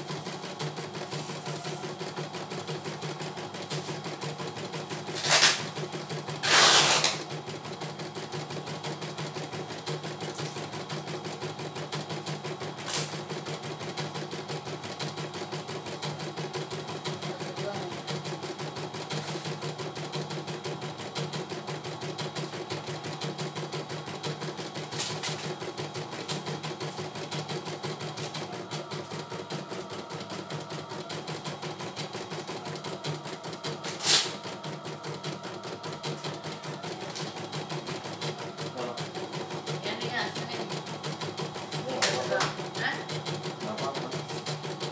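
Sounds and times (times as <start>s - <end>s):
embroidery machine stitching: 0.0s - 44.9s.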